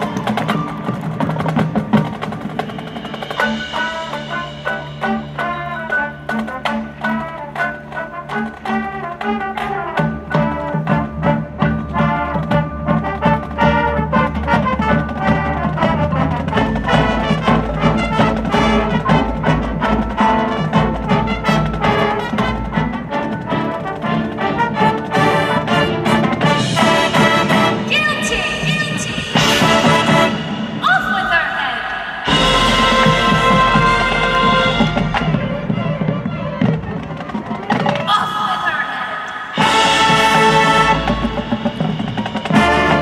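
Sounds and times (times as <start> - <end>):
marching band playing: 0.0 - 43.0.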